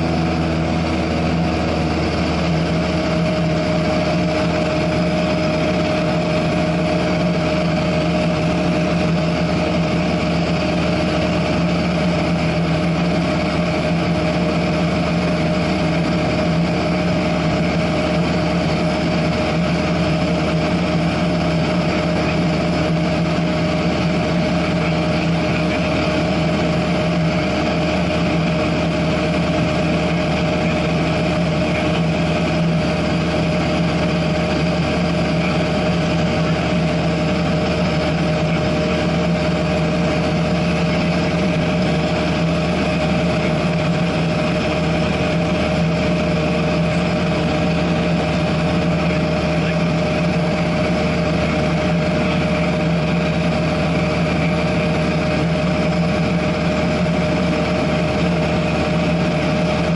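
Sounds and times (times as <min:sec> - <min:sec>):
airplane engine droning in cabin: 0:00.0 - 0:59.9.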